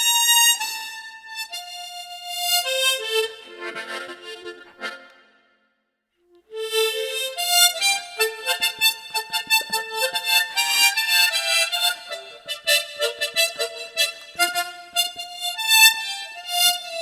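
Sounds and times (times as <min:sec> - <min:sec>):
tremolo harmonica melody: 0:00.0 - 0:05.6, 0:06.3 - 0:17.0.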